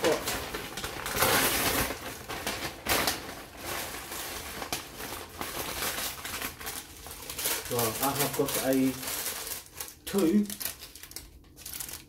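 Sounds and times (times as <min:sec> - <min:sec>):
paper bag rustling and crinkling: 0:00.0 - 0:12.0.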